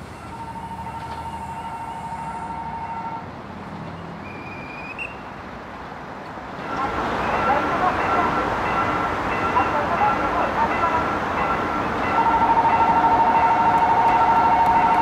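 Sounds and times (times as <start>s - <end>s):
low rumble of train: 0.0s - 15.0s.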